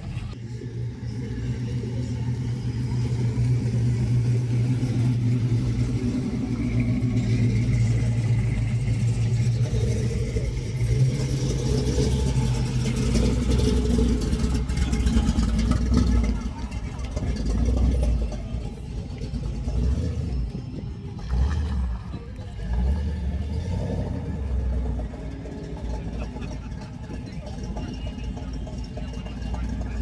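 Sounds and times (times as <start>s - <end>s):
car engine low exhaust rumble: 0.0s - 30.0s.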